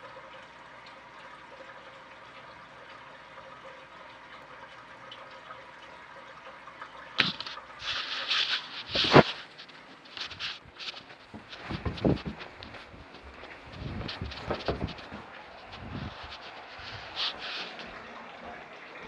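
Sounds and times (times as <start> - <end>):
water running from hose: 0.0 - 5.6, 6.7 - 19.0.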